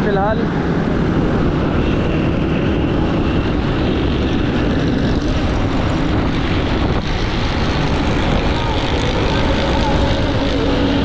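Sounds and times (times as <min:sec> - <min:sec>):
motorcycle engine drone: 0:00.0 - 0:11.0
road noise: 0:00.0 - 0:11.0
wind noise: 0:00.6 - 0:11.0.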